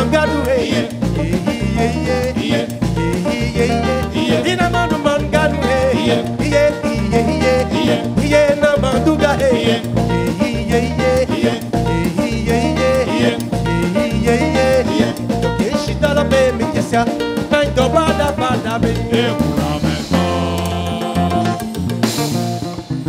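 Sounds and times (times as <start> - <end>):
man singing: 0.0 - 21.8
live band dance groove: 0.0 - 23.0.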